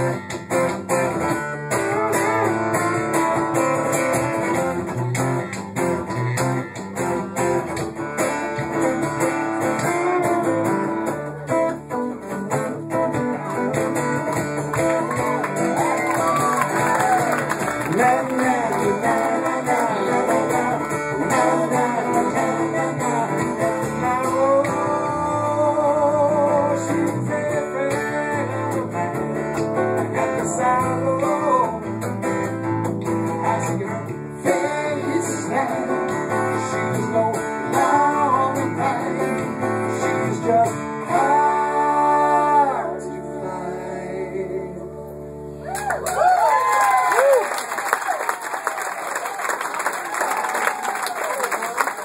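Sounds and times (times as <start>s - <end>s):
live rock and roll band: 0.0s - 48.0s
electric guitar: 0.0s - 48.2s.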